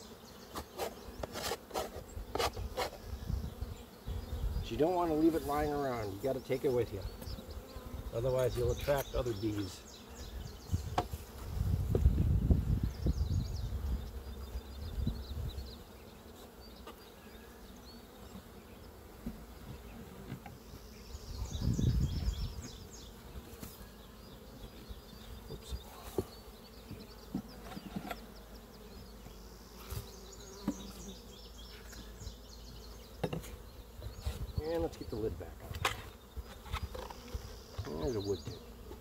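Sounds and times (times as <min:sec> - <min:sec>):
honey bees buzzing: 0:00.0 - 0:39.0.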